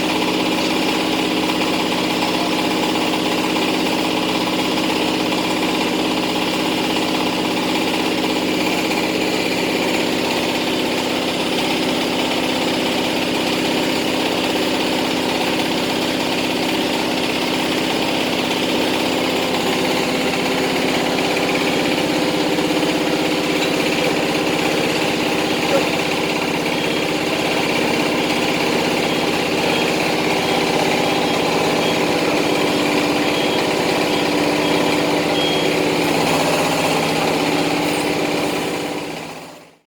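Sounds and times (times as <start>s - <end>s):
truck diesel engine idling: 0.0s - 39.8s.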